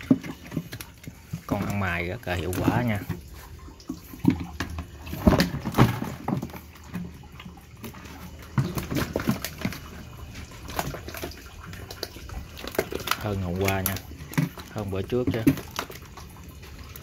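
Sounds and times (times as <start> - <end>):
fish flapping and splashing: 0.0 - 17.0.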